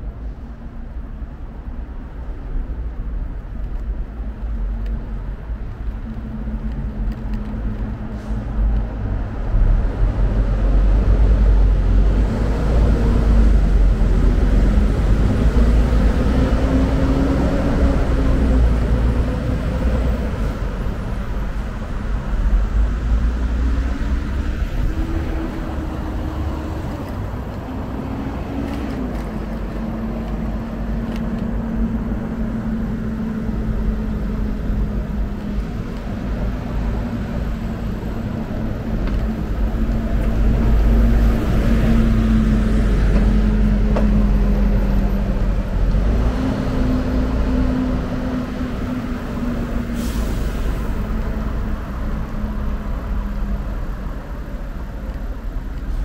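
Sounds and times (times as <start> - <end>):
wind rumble on microphone: 0.0 - 50.0
city street traffic: 0.0 - 56.0.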